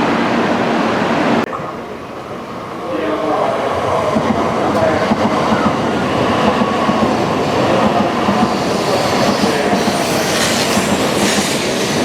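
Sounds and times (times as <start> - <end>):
train running past: 0.0 - 12.0.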